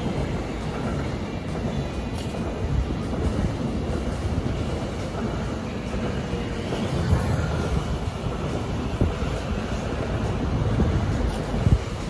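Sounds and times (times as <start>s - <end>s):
trains rolling past: 0.0s - 12.0s
wheels rumbling on rails: 0.0s - 12.0s.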